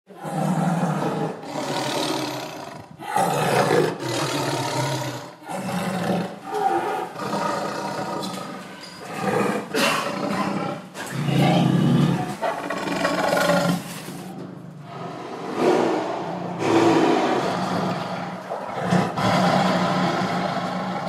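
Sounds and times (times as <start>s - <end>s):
lions roaring: 0.1s - 21.0s.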